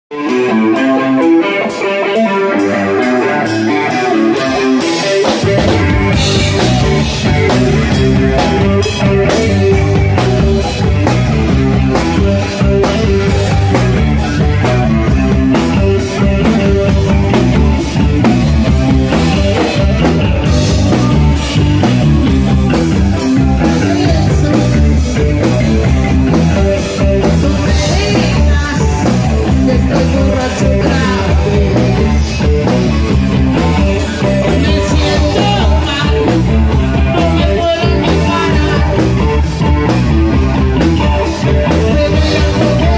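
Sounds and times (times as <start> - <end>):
electric guitar: 0.1 - 42.9
rock band playing live: 0.1 - 42.9.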